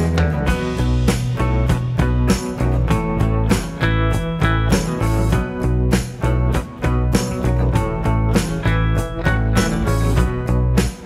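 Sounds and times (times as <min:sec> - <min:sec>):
band music with guitar and drums: 0:00.0 - 0:11.0.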